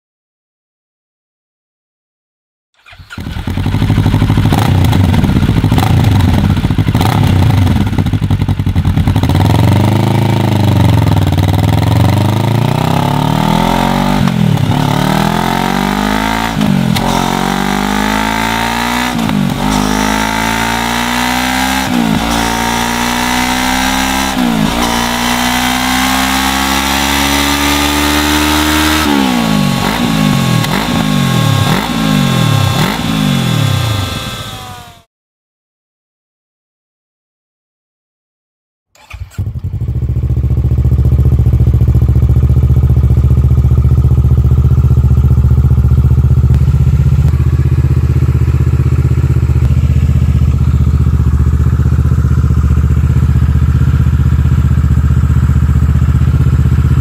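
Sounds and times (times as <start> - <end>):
motorcycle engine revving and accelerating: 2.8 - 35.1, 39.0 - 57.0.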